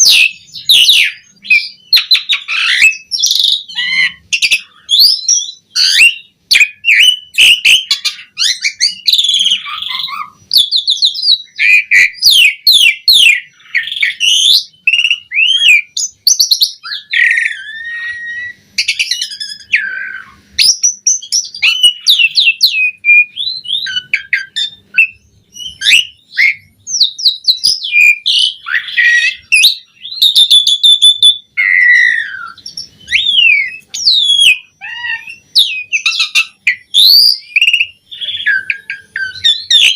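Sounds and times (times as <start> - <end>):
starling singing varied song: 0.0 - 39.9.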